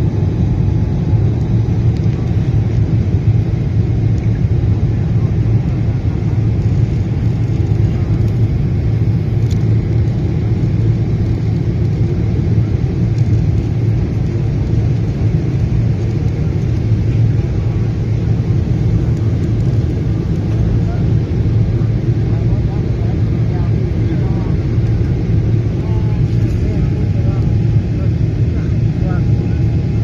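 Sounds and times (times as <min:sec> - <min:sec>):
airliner engines roaring: 0:00.0 - 0:30.0.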